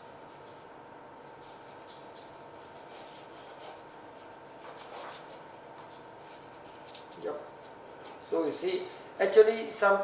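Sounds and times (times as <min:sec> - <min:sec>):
rubbing strokes on paper: 0:00.0 - 0:09.8.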